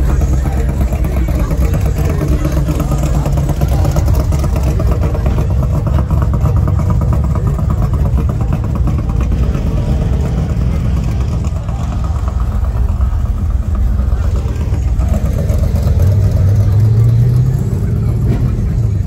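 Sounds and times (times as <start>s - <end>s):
loud car engine rumbling: 0.0s - 19.0s.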